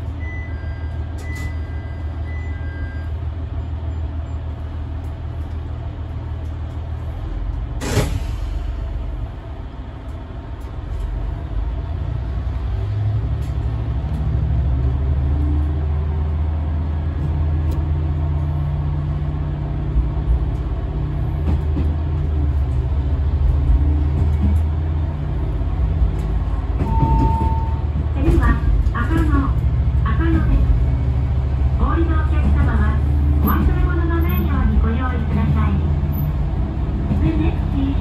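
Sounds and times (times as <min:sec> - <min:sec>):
diesel railcar engine running: 0:00.0 - 0:38.0.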